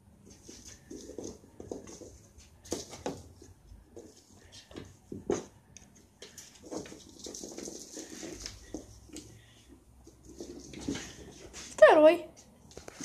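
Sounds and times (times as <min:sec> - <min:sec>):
toy pattering on wooden floor: 0:00.2 - 0:13.0.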